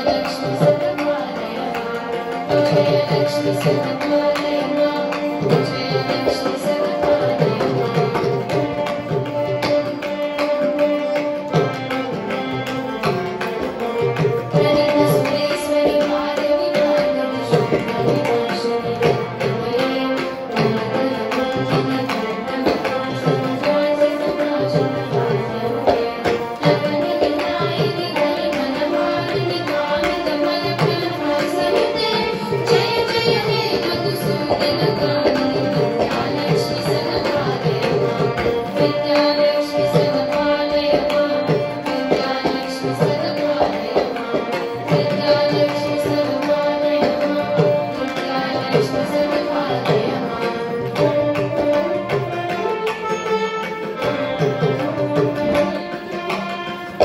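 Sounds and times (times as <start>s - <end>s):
girls singing together: 0.0s - 10.8s, 14.5s - 52.0s
mridangam drum strokes: 0.0s - 57.0s
veena accompaniment: 0.0s - 57.0s.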